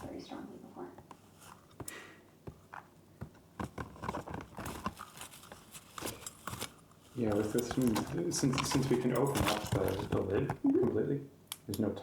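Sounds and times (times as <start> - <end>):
faint rustling: 0.0 - 11.1.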